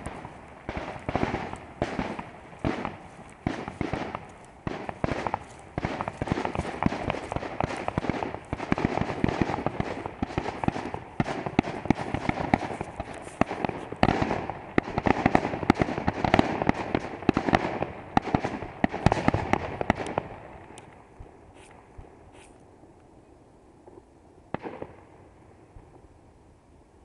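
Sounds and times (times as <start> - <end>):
fireworks bangs and crackling: 0.0 - 22.4, 23.8 - 26.0.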